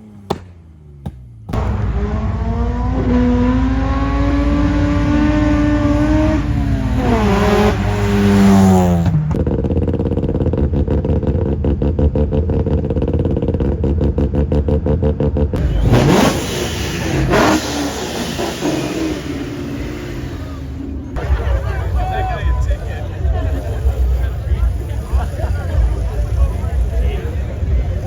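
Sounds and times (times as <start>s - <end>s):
car engine accelerating hard: 1.5s - 28.0s.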